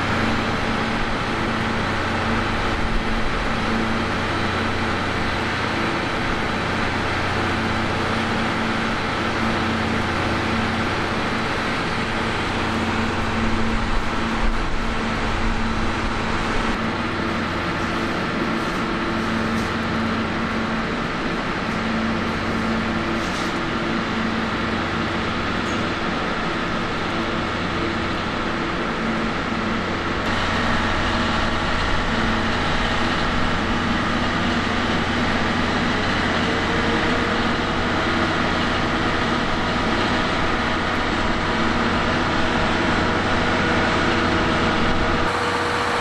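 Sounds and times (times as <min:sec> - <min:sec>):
vehicle hum and rumble: 0:00.0 - 0:46.0.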